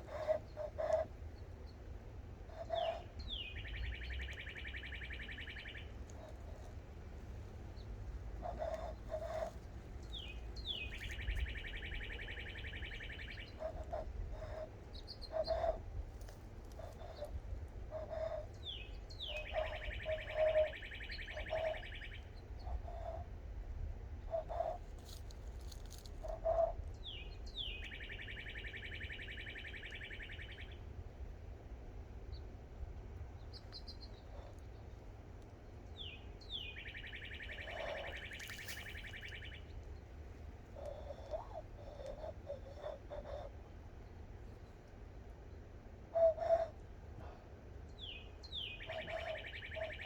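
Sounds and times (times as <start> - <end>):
songbird singing buzzy trill: 2.6 - 22.9, 24.3 - 31.0, 33.4 - 46.7, 47.8 - 50.0.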